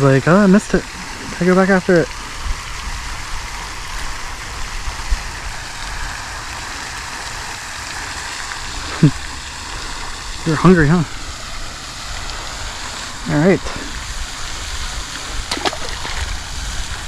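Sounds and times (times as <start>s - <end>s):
wind rumble on microphone: 0.0s - 7.6s, 8.5s - 17.0s
steady outdoor hiss: 0.0s - 17.0s.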